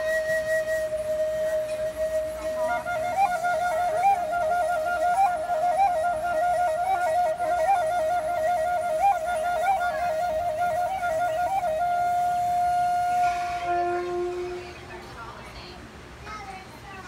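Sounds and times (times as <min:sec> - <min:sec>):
bamboo flute trilling: 0:00.0 - 0:15.0.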